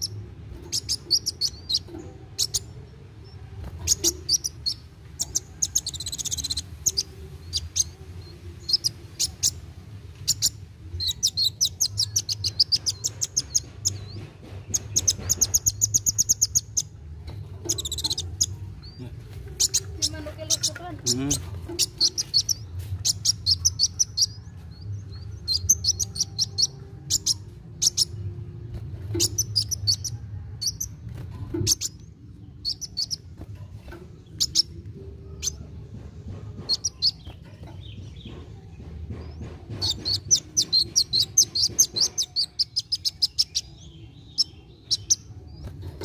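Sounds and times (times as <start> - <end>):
bird singing high chips: 0.0 - 17.0, 17.6 - 31.0, 31.6 - 33.3, 34.2 - 34.8, 36.6 - 38.4, 39.3 - 46.0.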